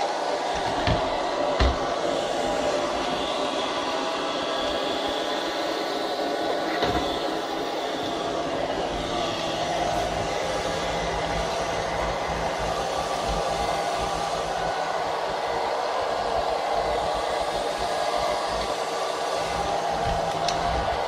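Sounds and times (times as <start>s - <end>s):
robot vacuum whirring: 0.0s - 21.0s.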